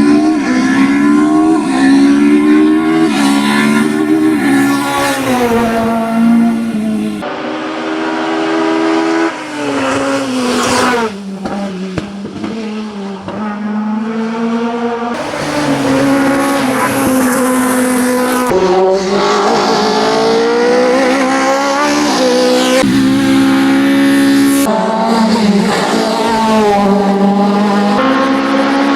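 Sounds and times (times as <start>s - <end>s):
race car engine at full throttle: 0.0s - 28.9s.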